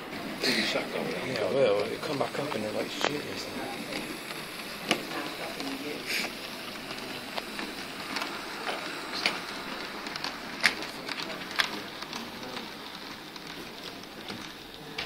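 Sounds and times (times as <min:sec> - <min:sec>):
small wheels rattling on rails: 0:00.0 - 0:15.0.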